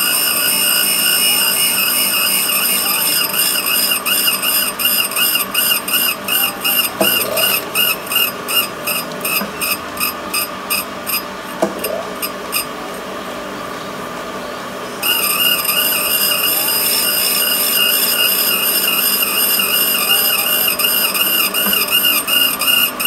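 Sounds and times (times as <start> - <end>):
valve grinding machine whine: 0.0 - 23.0.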